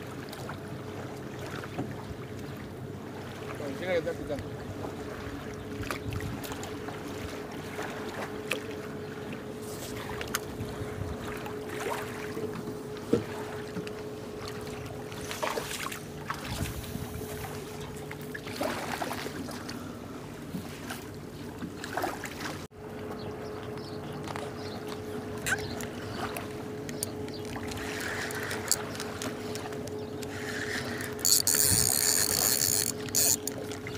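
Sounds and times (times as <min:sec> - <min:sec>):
outboard motor humming: 0:00.0 - 0:33.9.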